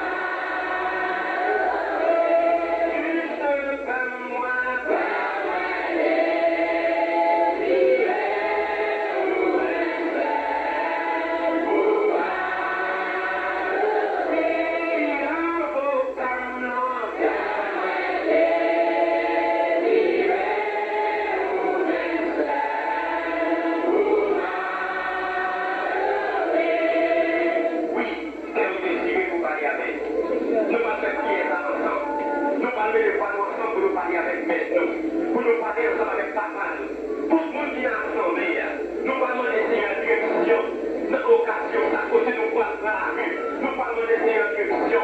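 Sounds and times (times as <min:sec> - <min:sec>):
group singing a hymn: 0:00.0 - 0:45.0.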